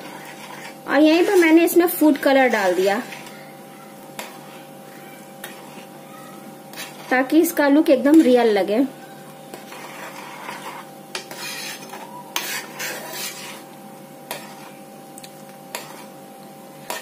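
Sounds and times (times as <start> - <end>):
spoon stirring and scraping pan: 0.0 - 17.0.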